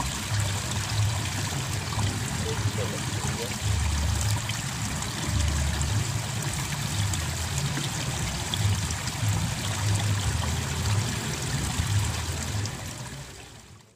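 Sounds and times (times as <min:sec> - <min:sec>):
low water rumbling: 0:00.0 - 0:13.9
water trickling in a ditch: 0:00.0 - 0:13.9.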